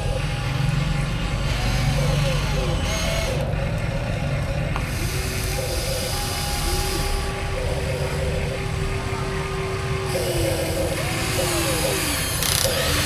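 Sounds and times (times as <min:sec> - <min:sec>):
electric motors whining: 0:00.0 - 0:13.0
low hum: 0:00.0 - 0:13.0.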